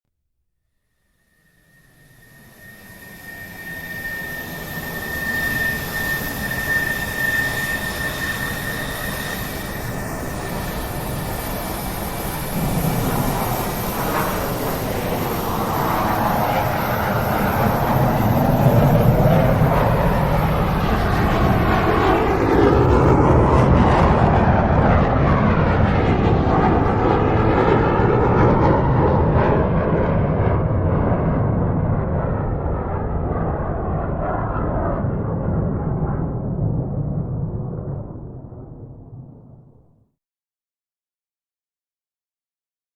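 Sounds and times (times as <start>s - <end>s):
jet airliner flying past: 1.0s - 39.9s.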